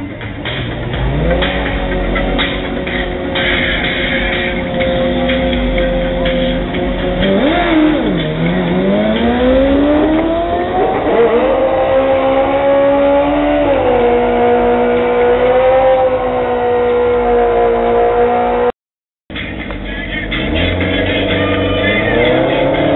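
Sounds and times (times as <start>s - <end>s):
motorcycle engine revving and accelerating: 0.4s - 18.7s, 20.1s - 22.9s.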